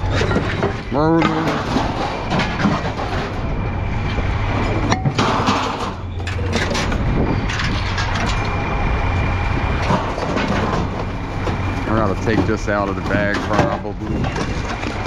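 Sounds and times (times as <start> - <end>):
scrap steel clanking onto pile: 0.0 - 3.6, 4.5 - 8.5, 9.7 - 15.0
heavy engine running: 0.0 - 15.0.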